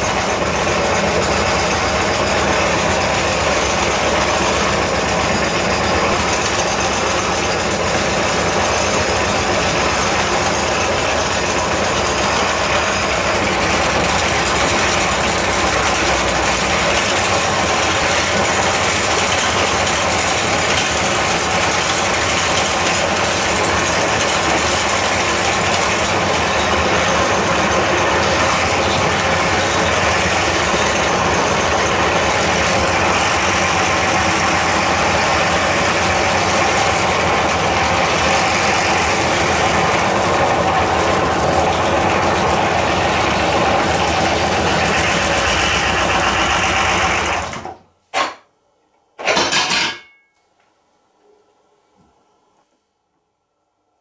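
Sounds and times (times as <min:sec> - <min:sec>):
meat grinder motor grinding plastic: 0:00.0 - 0:47.8.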